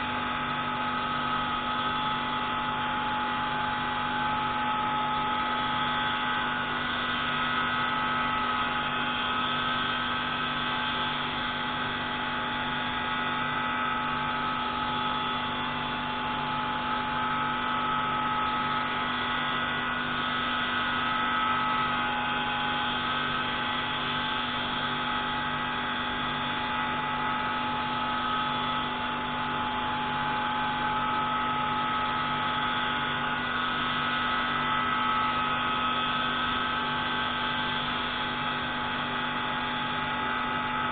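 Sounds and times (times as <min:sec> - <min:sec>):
pneumatic grinding tool whine: 0:00.0 - 0:40.9.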